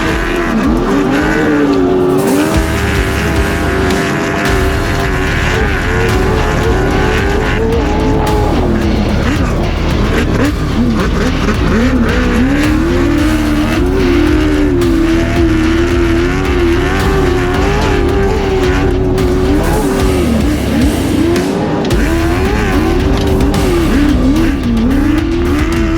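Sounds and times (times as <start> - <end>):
truck engine revving: 0.0 - 25.9.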